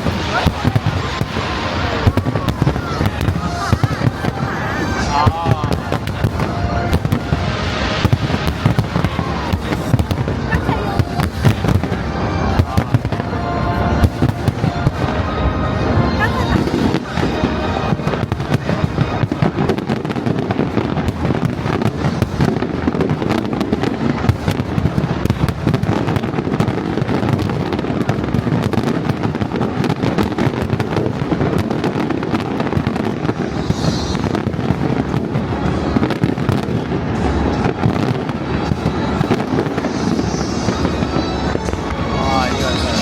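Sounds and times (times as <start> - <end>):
fireworks bangs and crackles: 0.0 - 43.0
fireworks high whistles: 0.0 - 43.0.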